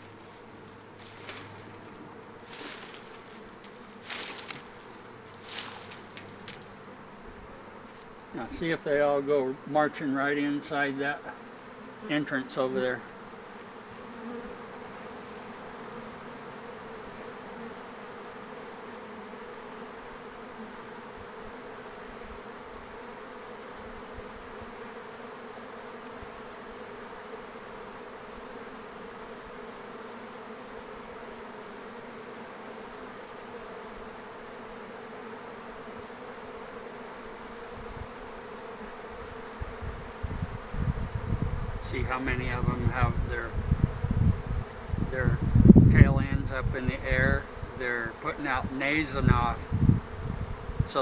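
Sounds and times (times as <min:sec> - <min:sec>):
bee swarm buzzing: 0:00.0 - 0:51.0.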